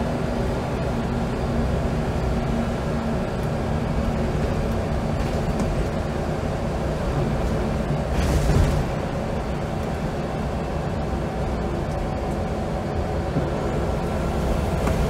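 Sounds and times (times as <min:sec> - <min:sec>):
bus diesel engine running: 0:00.0 - 0:15.0
road noise rumble: 0:00.0 - 0:15.0.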